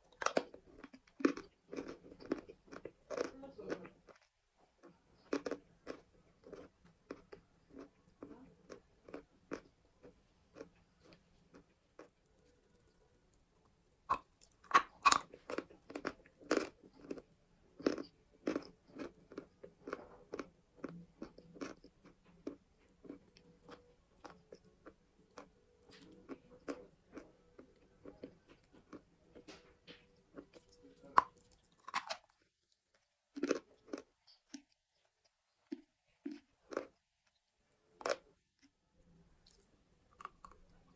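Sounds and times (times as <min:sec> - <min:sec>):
crunching and chewing chalk: 0:00.0 - 0:40.9.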